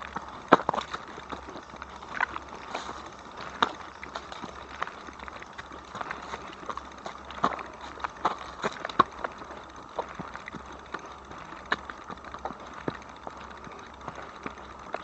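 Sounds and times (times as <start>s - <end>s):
bike rattling: 0.0s - 15.0s
low steady hum: 0.0s - 15.0s.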